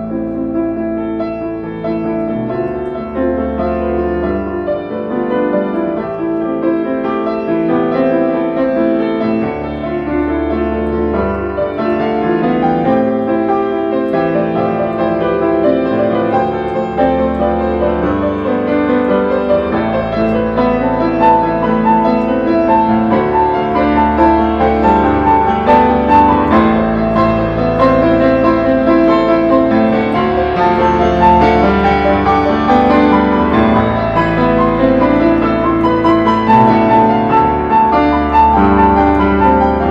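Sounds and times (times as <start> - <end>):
keyboard playing held chords: 0.0 - 39.9.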